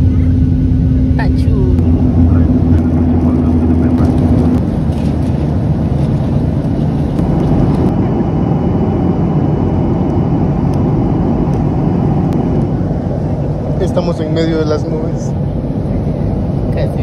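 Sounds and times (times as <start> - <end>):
jet engine and airflow hum: 0.0 - 17.0.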